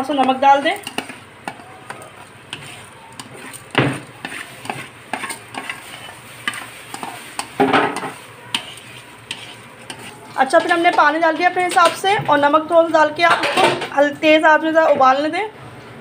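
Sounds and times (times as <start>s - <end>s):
metal spoon scraping colander: 0.2s - 13.8s.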